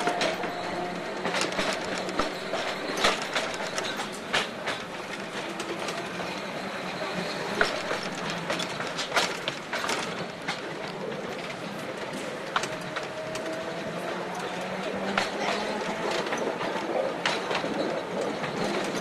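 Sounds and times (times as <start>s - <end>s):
tram wheels rumbling on rail: 0.0s - 19.0s.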